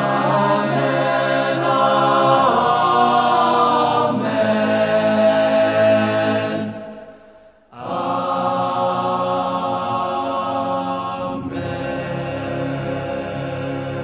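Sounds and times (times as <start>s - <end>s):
male choir singing in harmony: 0.0s - 14.0s.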